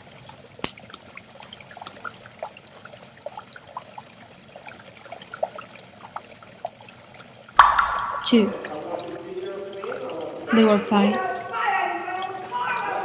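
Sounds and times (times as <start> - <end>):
water drip plinks: 0.0 - 13.0
tap water trickling into sink: 0.2 - 11.6.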